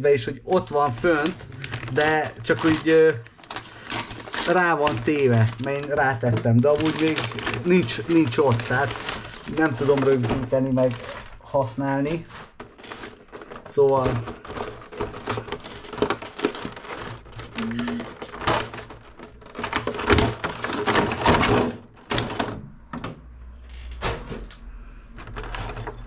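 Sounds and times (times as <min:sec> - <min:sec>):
packaging rustling: 0:00.0 - 0:22.6
plastic parts clicking and tapping: 0:00.4 - 0:11.2, 0:12.3 - 0:23.2.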